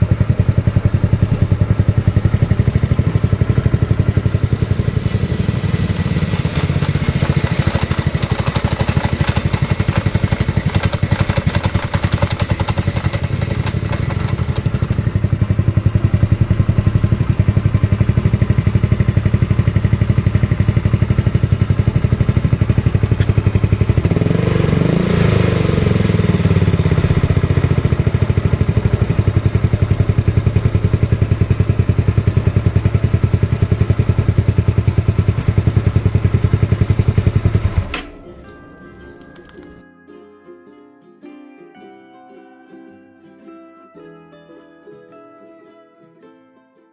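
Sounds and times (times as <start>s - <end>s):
scooter engine idling and revving: 0.0s - 39.8s.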